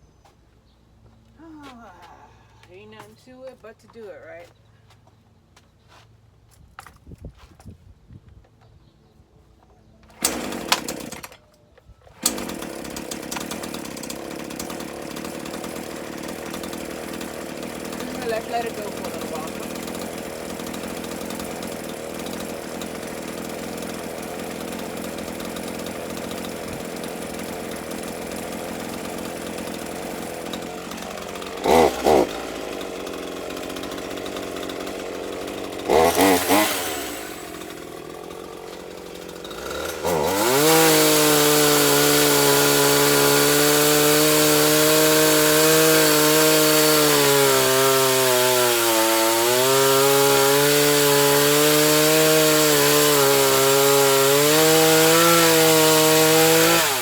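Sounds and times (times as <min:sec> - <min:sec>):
petrol chainsaw revving: 0:10.1 - 0:11.4, 0:12.2 - 0:57.0.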